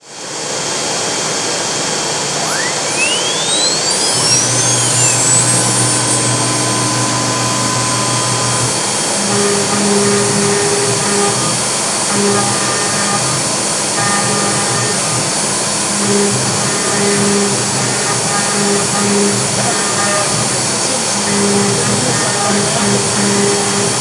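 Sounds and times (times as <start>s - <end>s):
router rushing noise: 0.0s - 24.0s
spindle whine rising in pitch: 0.0s - 24.0s.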